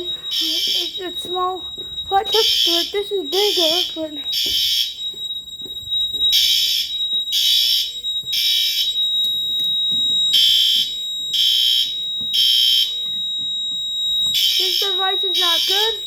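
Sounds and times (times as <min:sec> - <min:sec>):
fire alarm horn blasts: 0:00.0 - 0:16.0.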